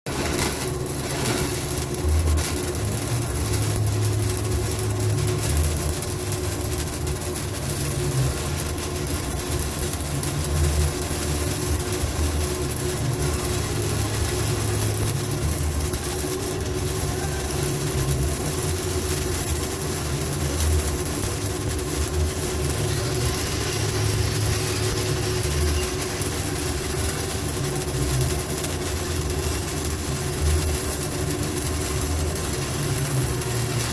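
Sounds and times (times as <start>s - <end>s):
welding arc crackling: 0.0s - 33.9s.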